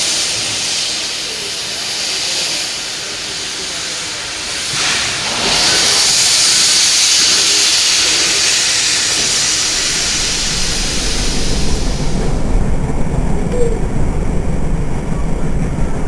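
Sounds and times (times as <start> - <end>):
railway carriage rumbling on track: 0.0 - 16.0
steam locomotive venting steam: 0.0 - 16.0.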